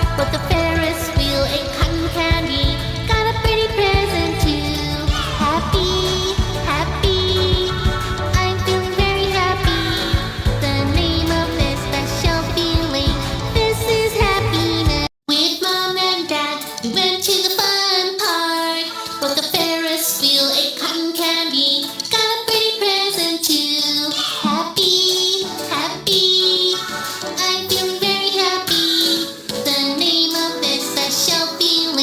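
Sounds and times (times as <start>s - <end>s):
child-like voice singing: 0.0s - 32.0s
music backing: 0.0s - 32.0s.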